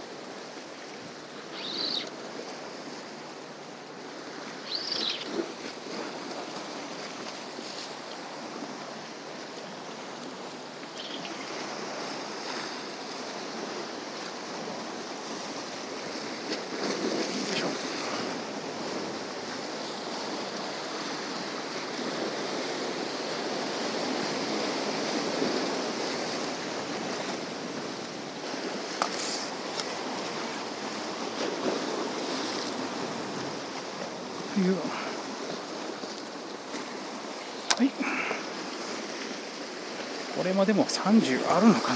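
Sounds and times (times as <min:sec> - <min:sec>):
waves breaking against rocks: 0:05.2 - 0:41.9.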